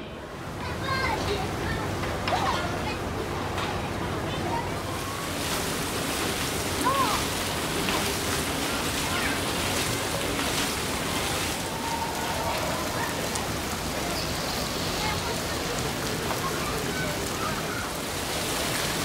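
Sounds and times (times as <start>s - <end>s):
fountain water splashing into pool: 0.2s - 19.0s.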